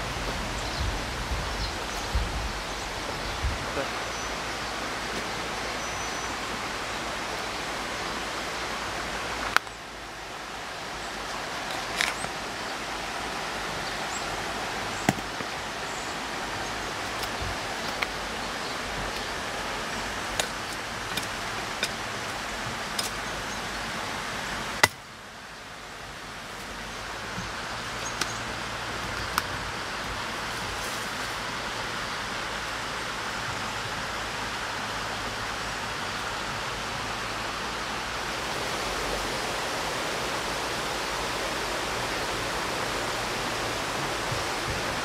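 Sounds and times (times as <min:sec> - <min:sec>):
outdoor background hiss: 0:00.0 - 0:45.0.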